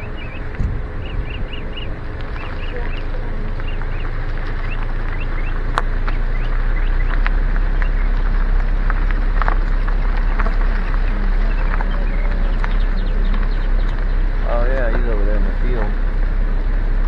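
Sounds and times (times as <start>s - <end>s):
car rumble of tyres and wind: 0.0s - 17.0s.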